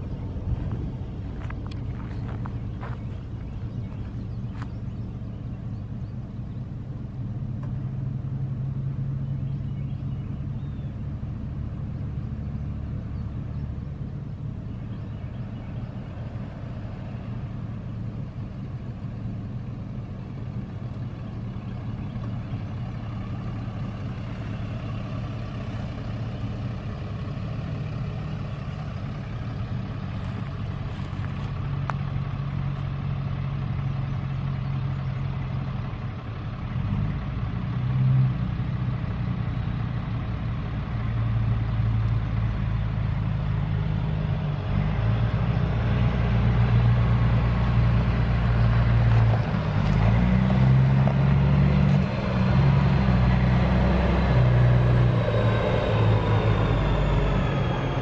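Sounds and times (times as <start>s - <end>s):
truck diesel engine approaching: 0.0s - 58.0s.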